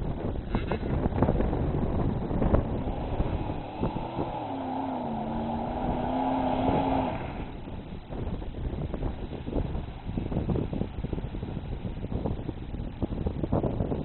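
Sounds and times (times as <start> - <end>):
truck engine running hard: 0.0 - 14.0.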